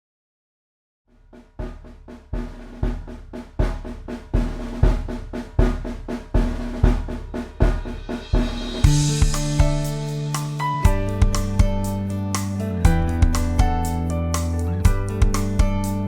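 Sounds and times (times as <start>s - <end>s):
drum kit playing rock beat: 2.4s - 16.0s.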